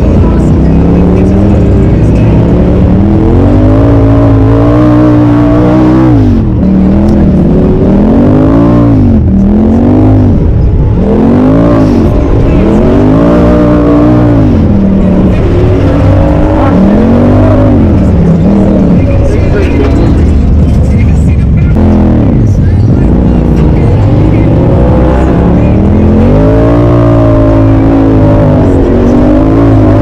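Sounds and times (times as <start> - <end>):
engine revving under load: 0.0 - 30.0.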